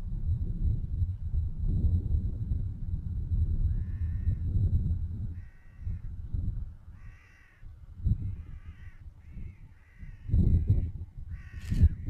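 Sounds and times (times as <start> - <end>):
low gusting rumble: 0.0 - 12.0.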